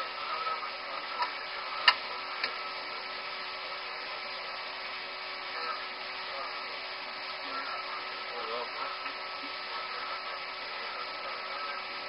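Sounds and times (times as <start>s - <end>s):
cockpit background hum: 0.0s - 12.0s.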